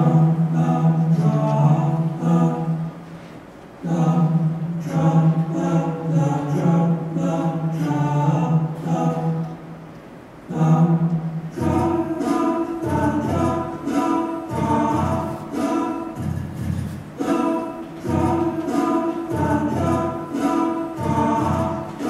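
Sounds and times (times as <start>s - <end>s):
a cappella choral voices: 0.0s - 9.8s, 10.4s - 22.0s
low rhythmic accompaniment: 0.0s - 22.0s.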